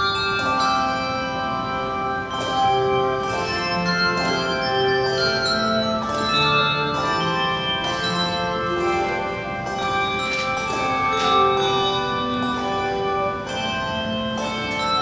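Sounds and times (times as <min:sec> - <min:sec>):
handbell choir playing: 0:00.0 - 0:15.0.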